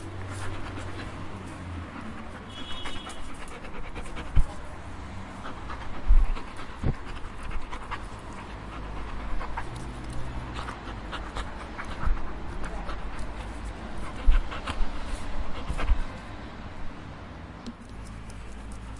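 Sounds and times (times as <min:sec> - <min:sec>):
dog panting: 0:00.0 - 0:17.1, 0:17.9 - 0:18.9.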